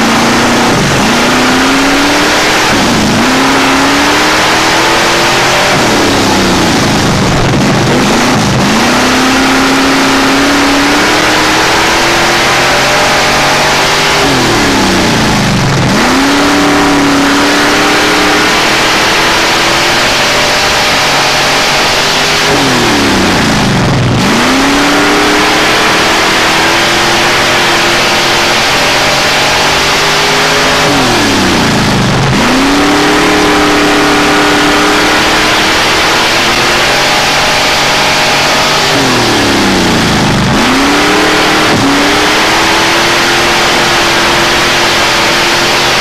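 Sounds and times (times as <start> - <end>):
race car engine at high revs: 0.0 - 46.0.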